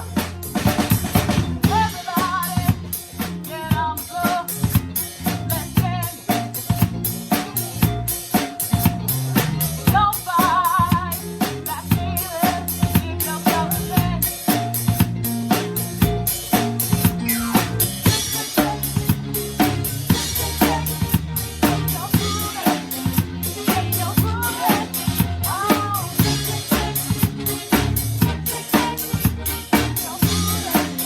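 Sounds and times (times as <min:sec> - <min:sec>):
band playing pop-rock song: 0:00.0 - 0:31.0
drum kit beat: 0:00.0 - 0:31.0.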